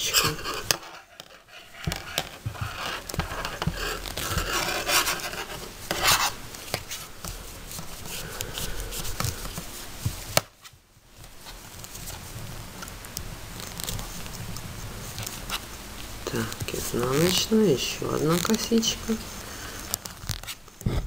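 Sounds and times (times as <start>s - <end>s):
yarn rubbing and scratching: 0.0s - 20.8s.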